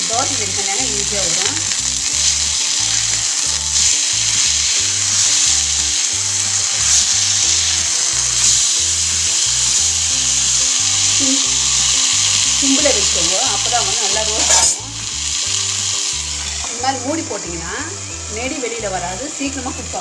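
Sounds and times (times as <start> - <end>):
background music with bass line: 0.0 - 20.0
fish sizzling in oil: 0.0 - 20.0.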